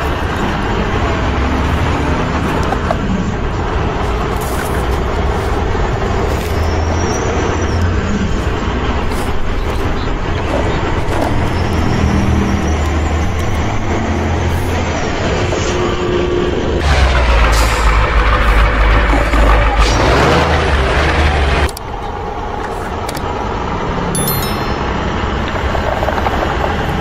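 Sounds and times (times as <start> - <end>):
heavy truck engine rumbling: 0.0 - 27.0.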